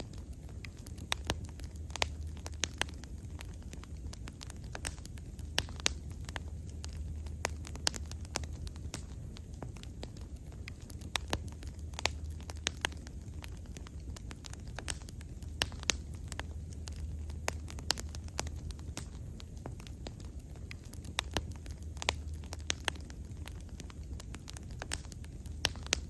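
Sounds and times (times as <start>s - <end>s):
low steady rumble: 0.0s - 26.0s
wood bonfire crackling and popping: 0.0s - 26.0s.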